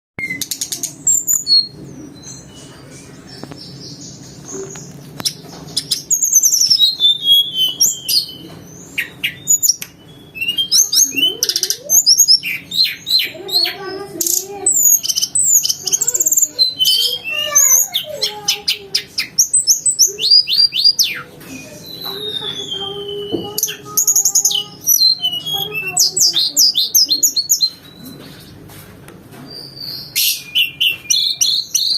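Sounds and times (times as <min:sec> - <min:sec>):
songbird singing: 0:00.2 - 0:28.6, 0:29.4 - 0:31.9.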